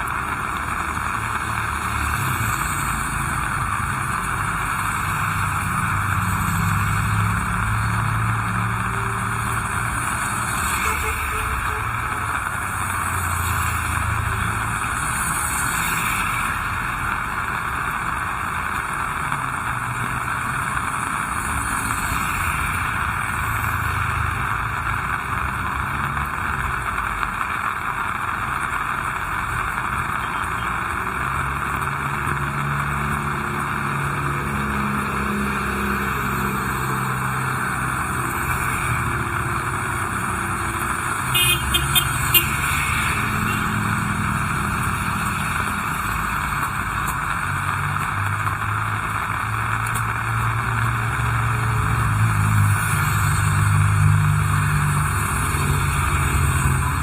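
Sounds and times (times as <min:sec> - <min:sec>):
heavy rain falling: 0:00.0 - 0:57.0
traffic on wet road: 0:00.0 - 0:57.0
vehicle engine hum: 0:00.0 - 0:57.0.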